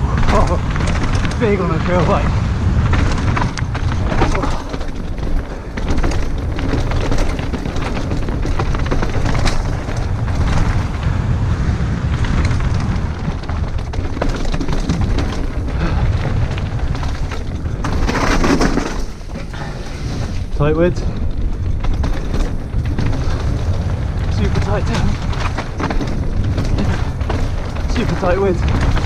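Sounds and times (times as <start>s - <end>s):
bike clattering and rattling: 0.0s - 29.0s
bike tyres on stony dirt trail: 0.0s - 29.0s
wind buffeting microphone: 0.0s - 29.0s.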